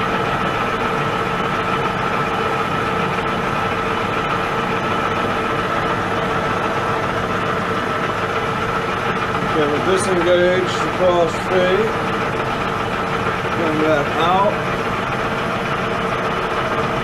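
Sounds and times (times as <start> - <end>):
lathe humming and whining: 0.0 - 17.0.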